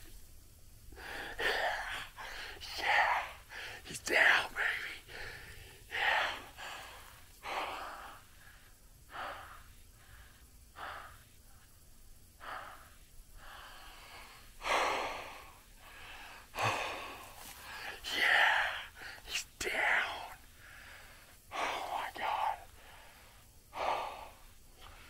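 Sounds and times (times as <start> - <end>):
man breathing: 0.9 - 3.8, 5.0 - 19.4, 20.0 - 25.0.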